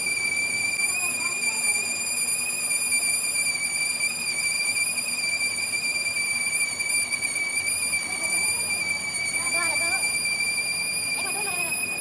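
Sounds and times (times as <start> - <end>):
steady high-pitched squeal: 0.0 - 12.0.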